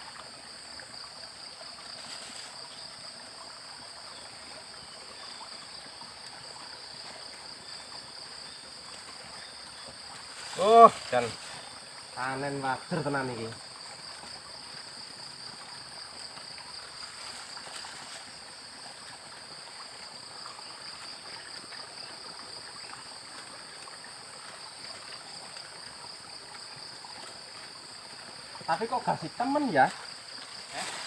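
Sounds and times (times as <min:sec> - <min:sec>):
floodwater trickling and flowing: 0:00.0 - 0:31.0
high-pitched insect chorus: 0:00.0 - 0:31.0.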